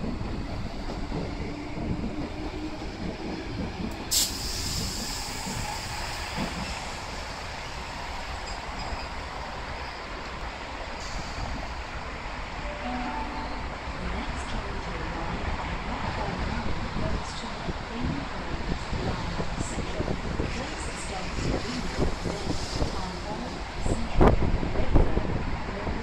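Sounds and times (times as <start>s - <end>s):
electric train rolling rumble: 0.0s - 26.0s.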